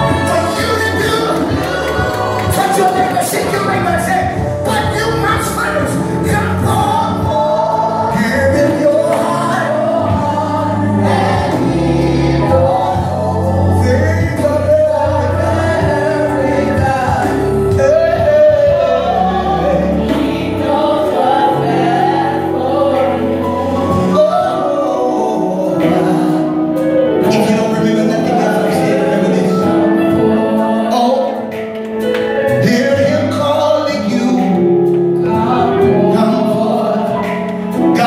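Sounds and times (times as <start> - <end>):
man singing lead: 0.0 - 22.1, 22.7 - 31.6, 32.4 - 38.0
backing singers: 0.0 - 33.1.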